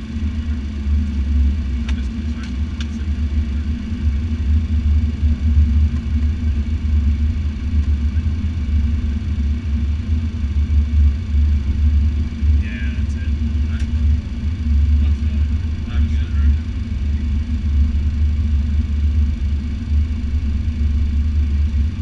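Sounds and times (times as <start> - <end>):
deep rumble of jet engines: 0.0 - 22.0.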